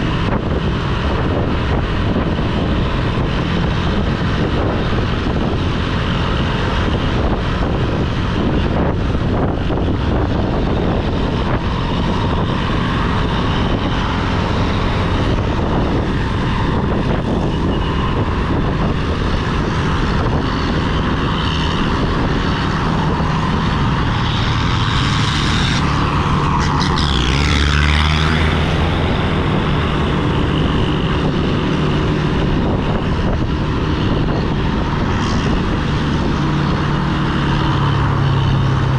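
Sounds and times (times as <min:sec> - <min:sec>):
wind rush: 0:00.0 - 0:38.9.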